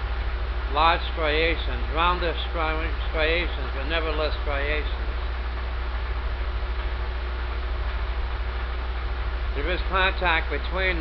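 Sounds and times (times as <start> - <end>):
even hiss: 0.0 - 11.0
low electrical hum: 0.0 - 11.0.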